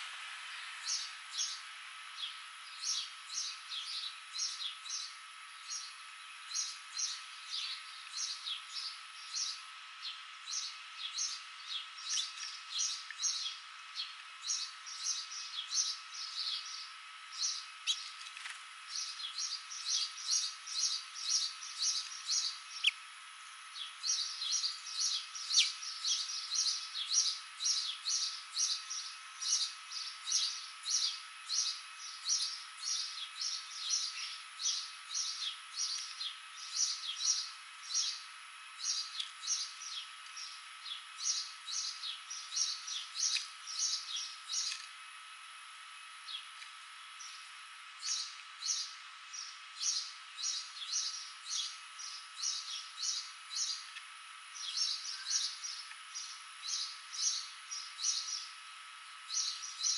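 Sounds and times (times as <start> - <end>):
songbird chirping: 0.0 - 44.9, 46.2 - 58.6, 59.3 - 59.9.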